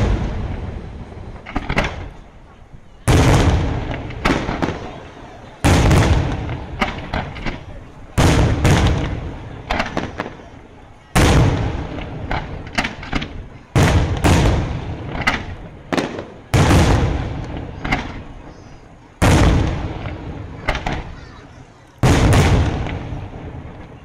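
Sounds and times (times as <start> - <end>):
fireworks booming: 0.0 - 24.0
fireworks cracks and pops: 1.2 - 24.0.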